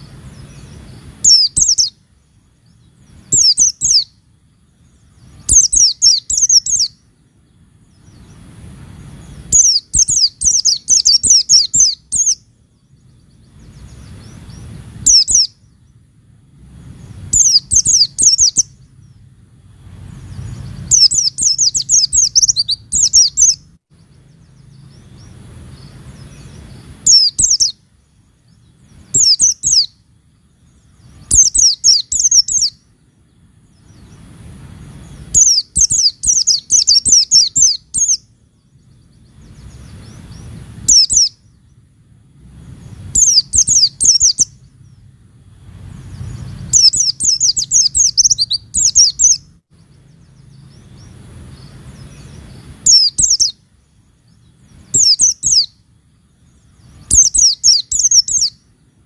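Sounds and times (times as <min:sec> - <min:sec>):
bird twittering: 0:00.0 - 0:16.0, 0:16.8 - 0:33.0, 0:33.6 - 0:41.8, 0:42.6 - 0:45.1, 0:45.9 - 0:58.8
faint low background noise: 0:00.0 - 0:59.0.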